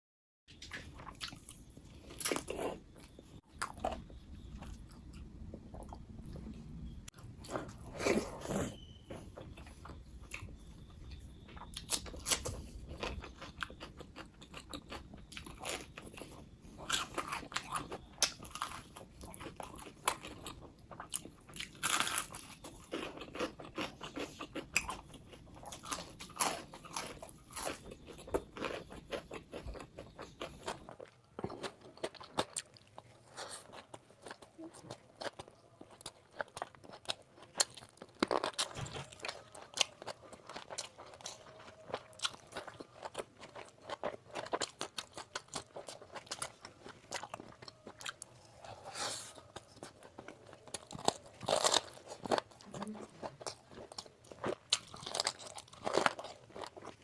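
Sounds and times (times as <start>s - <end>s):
crunching fried food: 0.5s - 57.0s.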